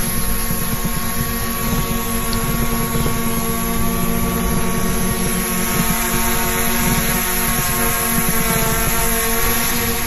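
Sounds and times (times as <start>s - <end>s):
drone propellers buzzing: 0.0s - 10.0s.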